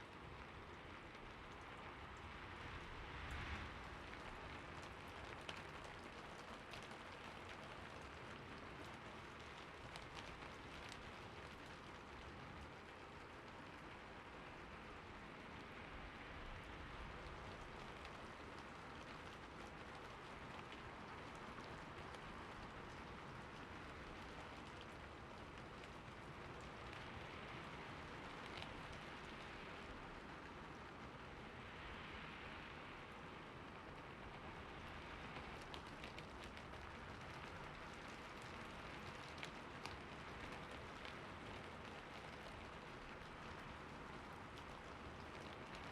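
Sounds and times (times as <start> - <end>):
rain falling on a rooftop: 0.0 - 45.9
raindrops ticking: 0.0 - 45.9.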